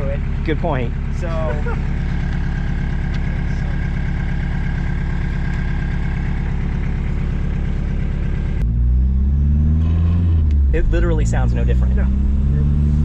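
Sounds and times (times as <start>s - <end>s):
diesel engine idling clatter: 0.0s - 8.6s, 10.5s - 12.6s.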